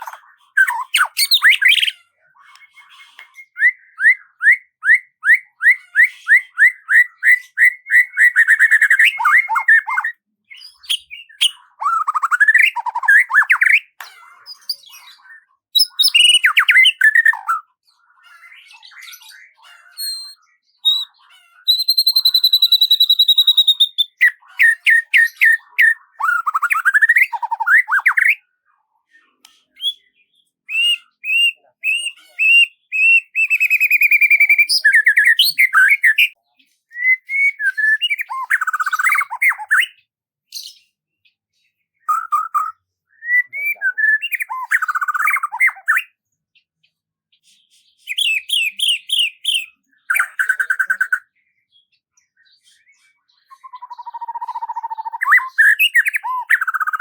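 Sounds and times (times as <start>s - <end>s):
songbird singing: 0.0s - 28.5s, 29.2s - 46.6s, 48.0s - 57.0s.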